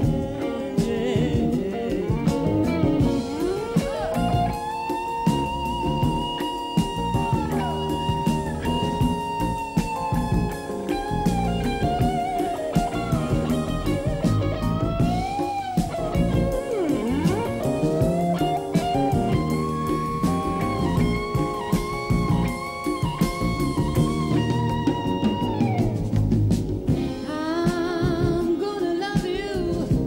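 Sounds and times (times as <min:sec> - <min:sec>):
electric guitar solo: 0:00.0 - 0:27.7
bass: 0:00.0 - 0:30.0
drums: 0:00.0 - 0:30.0.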